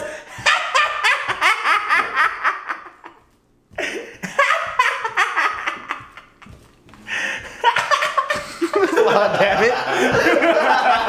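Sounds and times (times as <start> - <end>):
hearty laughter: 0.0 - 3.2, 3.8 - 11.0.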